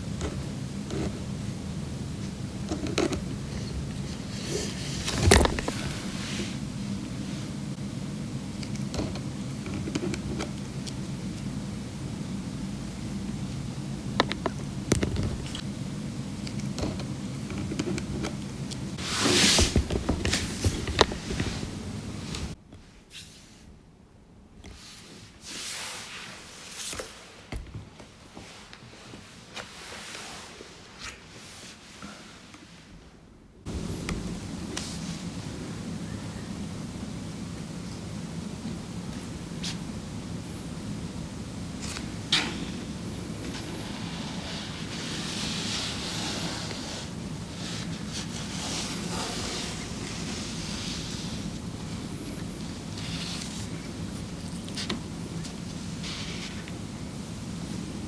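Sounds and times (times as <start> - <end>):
steady low hum: 0.0 - 22.6, 33.1 - 58.0.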